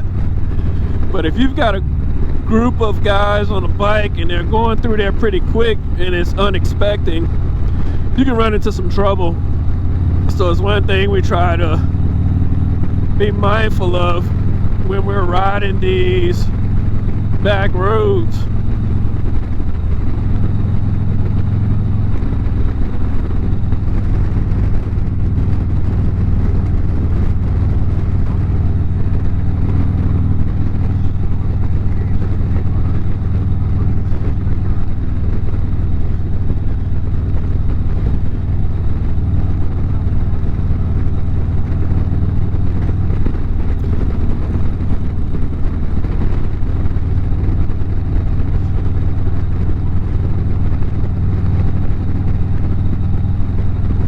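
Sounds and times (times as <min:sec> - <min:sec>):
motorcycle engine cruising: 0:00.0 - 0:54.0
road and wind noise: 0:00.0 - 0:54.0.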